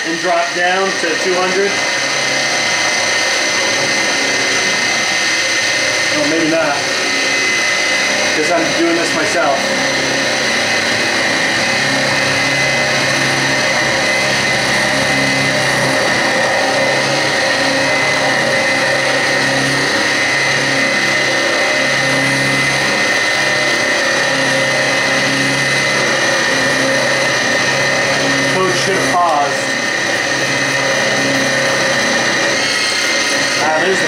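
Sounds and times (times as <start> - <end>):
lower hum: 0.0 - 34.0
milling machine cutting metal: 0.0 - 34.0
steady high whine: 0.0 - 34.0.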